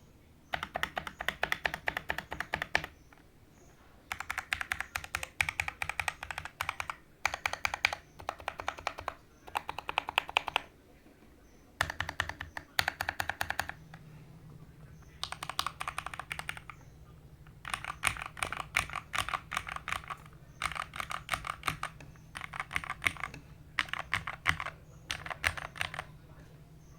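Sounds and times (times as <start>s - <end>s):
mechanical keyboard typing: 0.5s - 3.2s, 4.1s - 10.7s, 11.8s - 14.1s, 14.9s - 26.9s.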